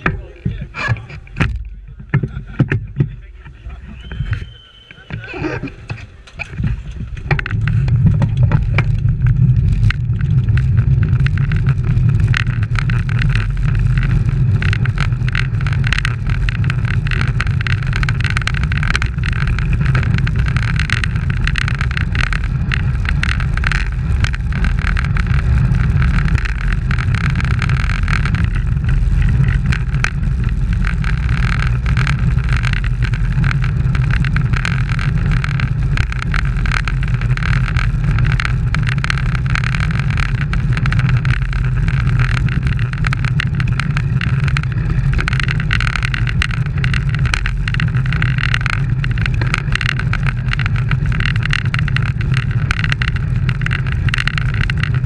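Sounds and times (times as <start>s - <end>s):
bicycles rattling and ticking: 0.0s - 55.0s
wind buffeting microphone: 0.0s - 55.0s.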